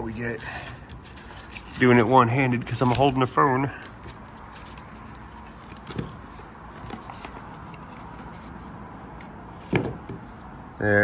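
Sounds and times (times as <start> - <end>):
cardboard envelope rustling: 0.1 - 9.8.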